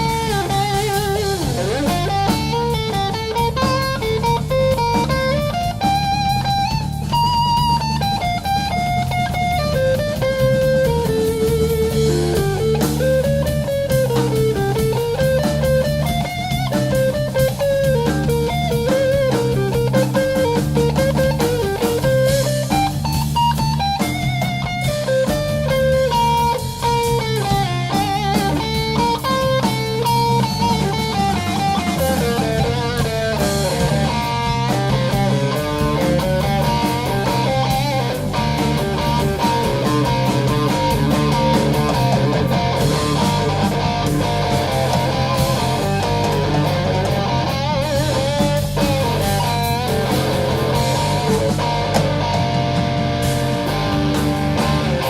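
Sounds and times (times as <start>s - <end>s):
bass guitar: 0.0s - 55.0s
drums: 0.0s - 55.0s
electric guitar lead melody: 0.0s - 55.0s.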